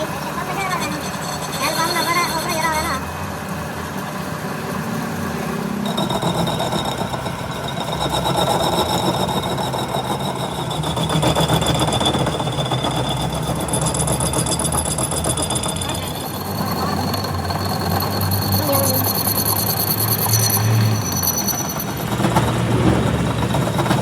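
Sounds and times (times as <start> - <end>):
high whine: 0.0 - 24.0
machinery running rhythmically: 0.0 - 24.0.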